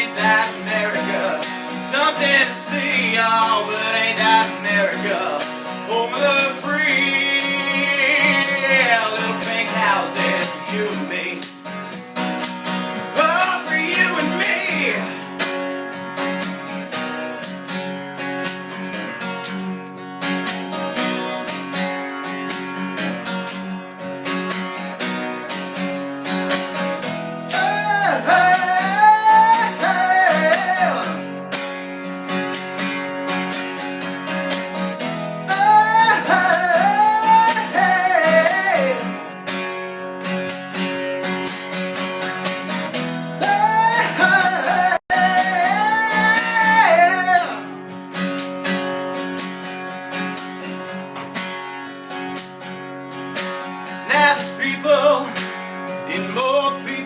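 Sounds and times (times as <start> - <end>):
bending lead guitar melody: 0.0 - 56.2.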